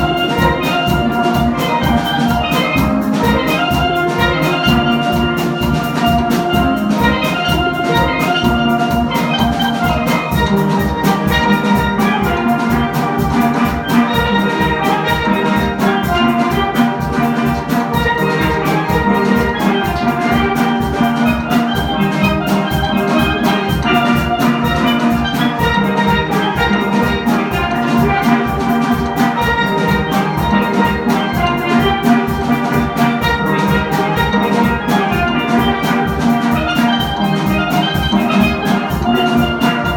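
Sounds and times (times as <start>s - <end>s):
drum kit beat: 0.0s - 39.9s
steelpans playing melody: 0.0s - 39.9s.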